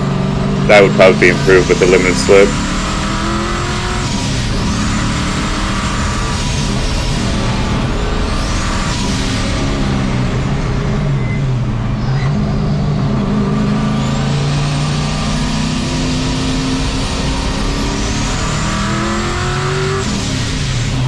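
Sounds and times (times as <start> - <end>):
high turbo whine: 0.0 - 21.0
race truck engine at speed: 0.0 - 21.0.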